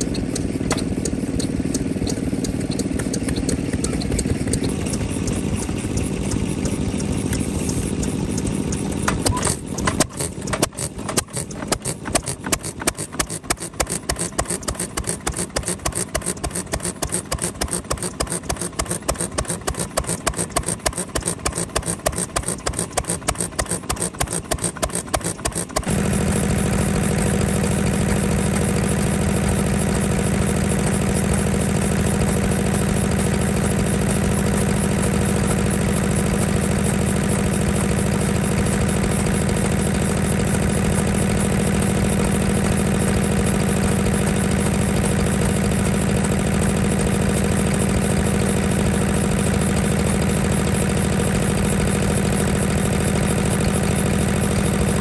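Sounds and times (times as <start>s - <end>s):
small diesel engine running: 0.0s - 55.0s
stationary engine firing slowly: 0.0s - 55.0s.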